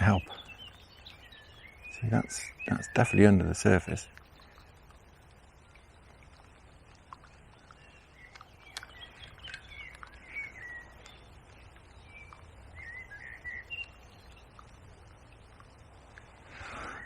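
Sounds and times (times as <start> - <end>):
low outdoor background noise: 0.0 - 17.0
small birds twittering: 0.0 - 17.0.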